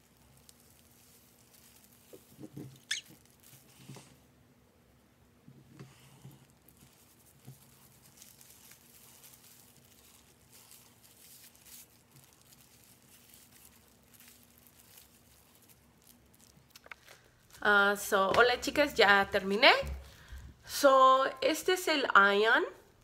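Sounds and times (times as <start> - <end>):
gloved hand rustling in wet hair: 0.0 - 4.2, 5.9 - 20.5.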